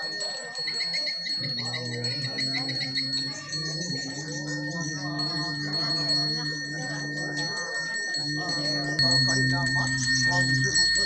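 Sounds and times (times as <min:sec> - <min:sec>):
brass hand bell ringing: 0:00.0 - 0:11.0
voices chanting: 0:00.0 - 0:11.0.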